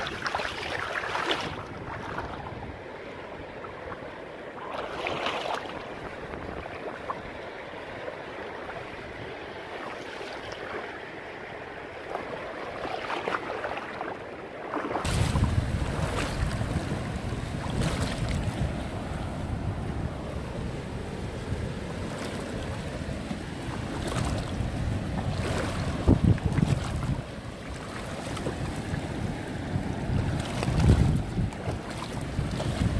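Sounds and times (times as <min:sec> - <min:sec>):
wind rumble on microphone: 0:00.0 - 0:09.5, 0:15.0 - 0:32.9
people wading through water: 0:00.0 - 0:32.9
surf washing: 0:00.0 - 0:32.9.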